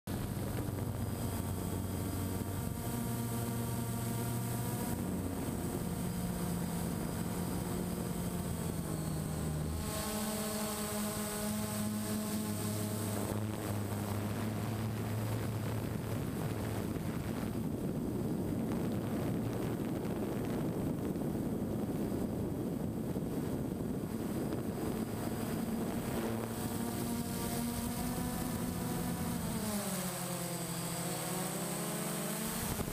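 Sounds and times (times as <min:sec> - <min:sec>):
drone propellers whining: 0:00.1 - 0:32.9
wind on microphone: 0:00.1 - 0:32.9.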